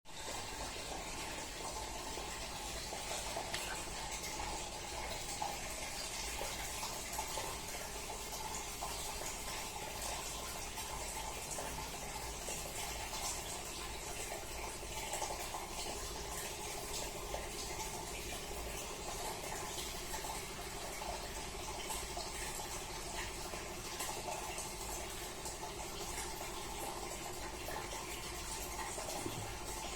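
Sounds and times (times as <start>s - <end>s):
washing machine spinning: 0.1s - 29.9s
water rushing and draining: 0.1s - 29.9s.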